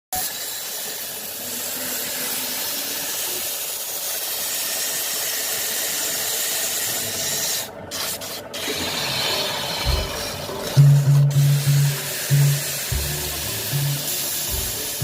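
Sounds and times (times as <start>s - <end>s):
milling machine cutting metal: 0.2s - 15.0s.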